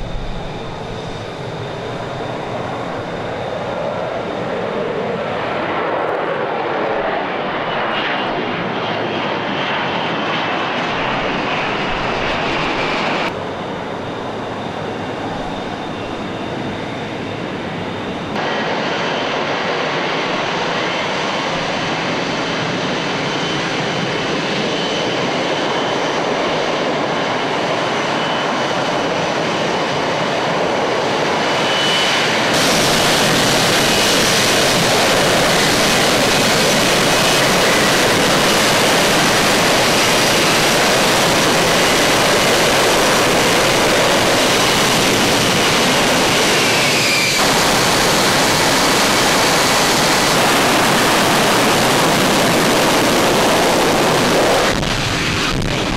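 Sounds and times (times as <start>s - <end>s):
jet engine roaring: 0.0s - 55.9s.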